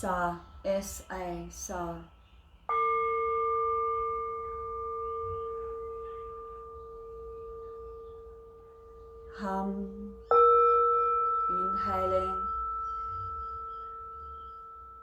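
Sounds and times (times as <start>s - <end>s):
singing bowl ringing: 2.7s - 15.0s
singing bowl struck: 2.7s - 15.0s.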